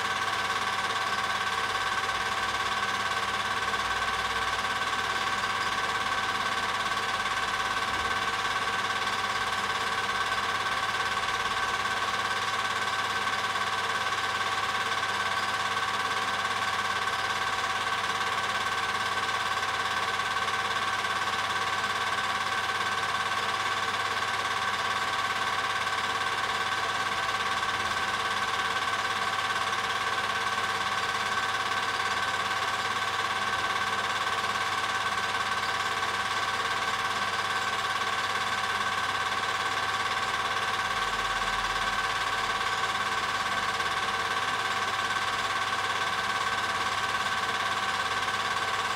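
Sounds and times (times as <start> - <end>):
film projector whirring: 0.0 - 48.9.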